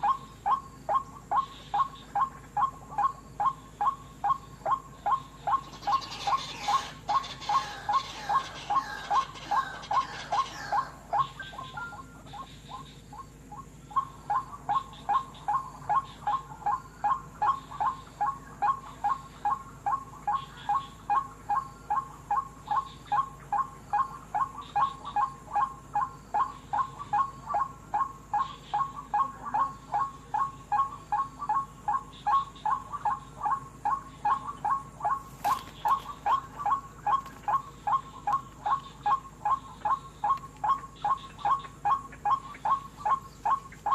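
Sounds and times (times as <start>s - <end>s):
waterhen calling: 0.0s - 43.9s.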